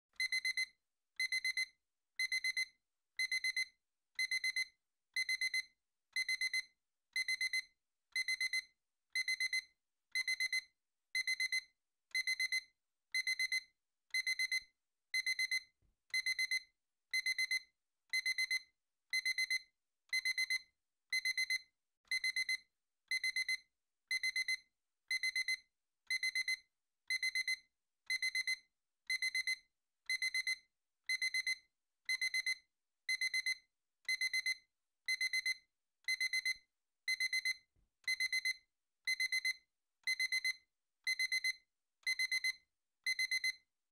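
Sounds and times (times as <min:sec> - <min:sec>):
kitchen timer beeping: 0:00.2 - 0:43.6.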